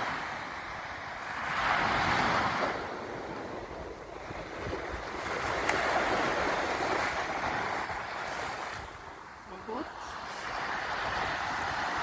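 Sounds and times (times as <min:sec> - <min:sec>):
small waves breaking on sand: 0:00.0 - 0:12.0.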